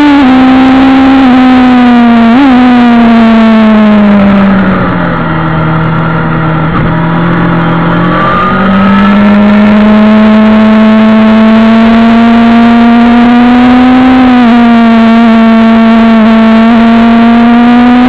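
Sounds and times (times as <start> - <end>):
motorcycle engine at speed: 0.0 - 18.0.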